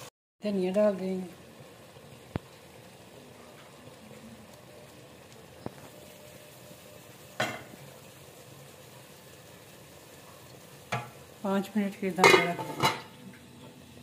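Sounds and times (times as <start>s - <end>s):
curry simmering in a pot: 0.4s - 14.0s.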